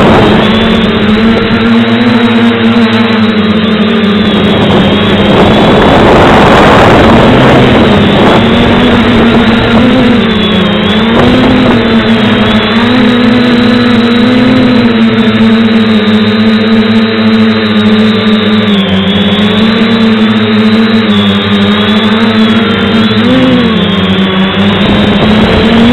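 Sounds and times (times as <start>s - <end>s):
drone propellers whining: 0.0s - 25.9s
rush of noise: 0.0s - 25.9s.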